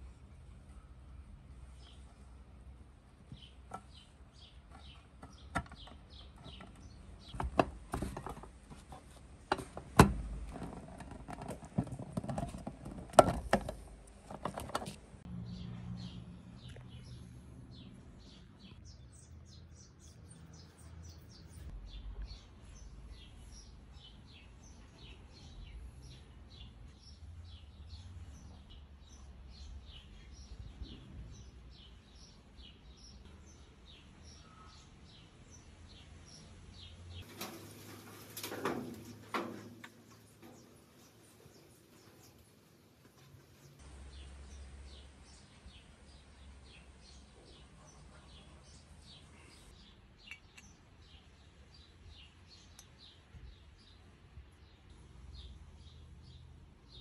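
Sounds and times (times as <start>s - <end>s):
birds chirping: 0.6s - 57.0s.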